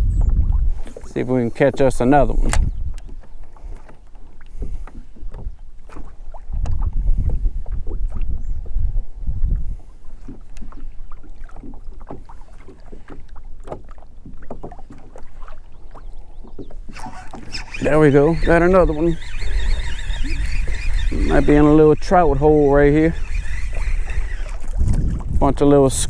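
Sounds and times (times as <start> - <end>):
waves lapping against kayak hull: 0.0 - 26.0
wind rumbling on microphone: 0.0 - 26.0.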